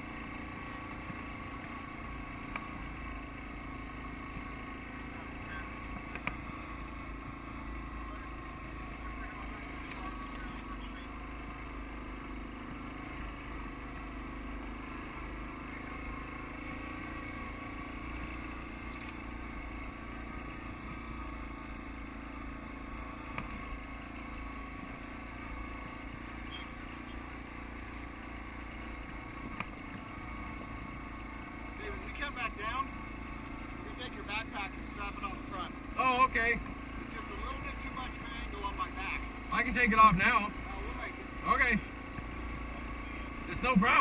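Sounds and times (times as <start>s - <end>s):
atv engine running under load: 0.0s - 44.0s.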